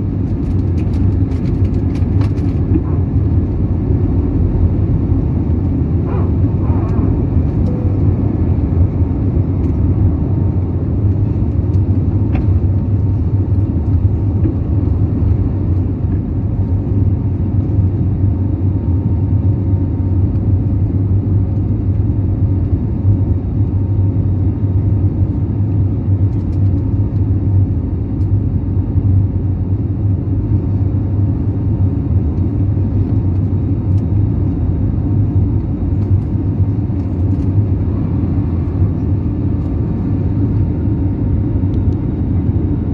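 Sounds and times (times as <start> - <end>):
jet airliner cabin drone: 0.0 - 42.9.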